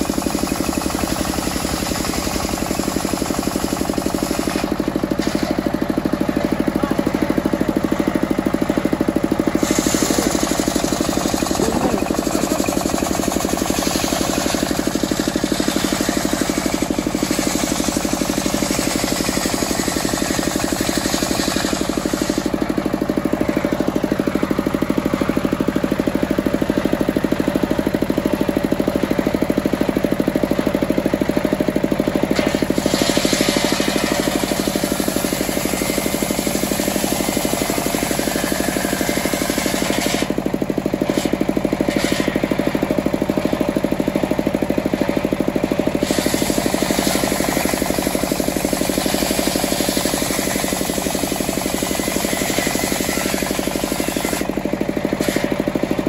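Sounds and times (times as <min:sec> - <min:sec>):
circular saw blade cutting wood: 0:00.0 - 0:27.9, 0:32.2 - 0:43.1, 0:45.7 - 0:56.0
diesel engine knocking: 0:00.0 - 0:56.0.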